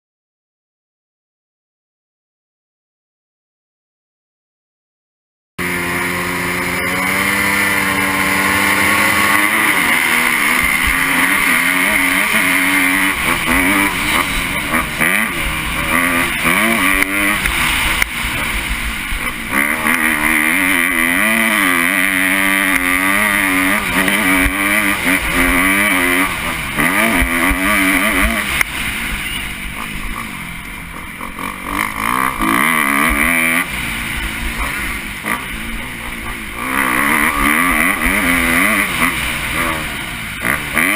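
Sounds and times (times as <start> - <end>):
motocross engine revving: 5.6 - 40.9.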